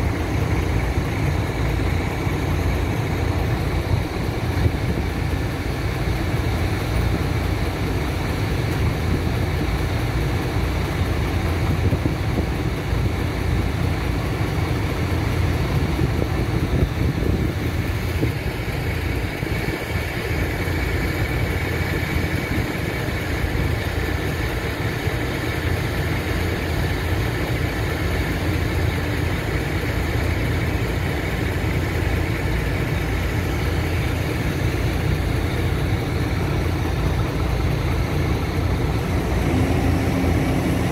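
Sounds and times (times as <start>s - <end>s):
diesel engine idling: 0.0s - 40.9s
high steady whine: 0.0s - 40.9s.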